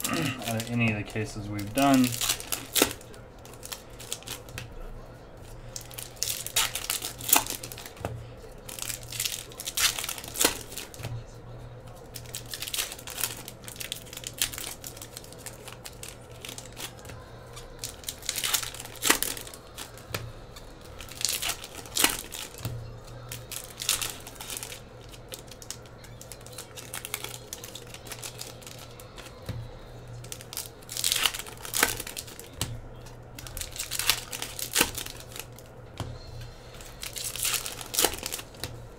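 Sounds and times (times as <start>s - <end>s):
foil wrappers crinkling and tearing: 0.0s - 38.9s
steady low hum: 0.0s - 38.9s.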